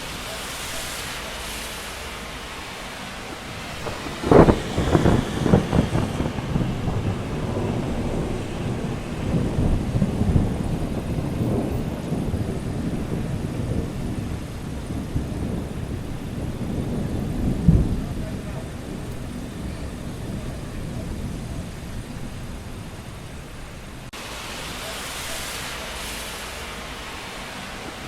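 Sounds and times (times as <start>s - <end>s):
steady rain: 0.0s - 28.0s
thunder cracking and rumbling: 0.0s - 28.0s.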